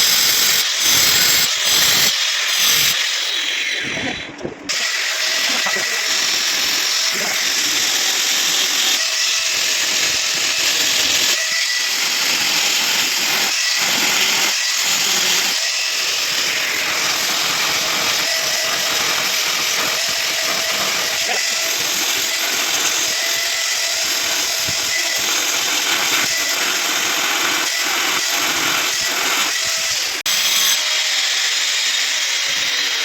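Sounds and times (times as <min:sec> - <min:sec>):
power tool grinding: 0:00.0 - 0:33.0.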